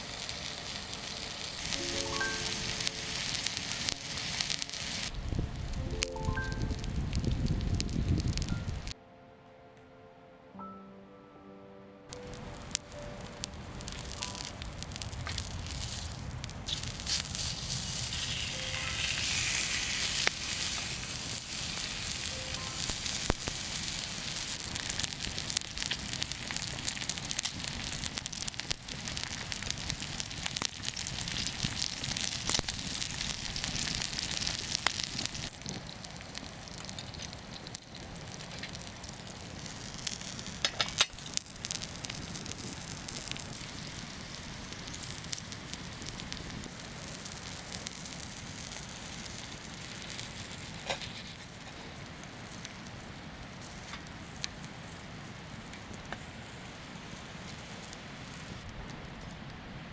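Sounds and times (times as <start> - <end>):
sharp crackling pops: 0.0 - 9.0, 12.1 - 59.5
steak sizzling over campfire: 0.0 - 9.0, 12.1 - 59.9.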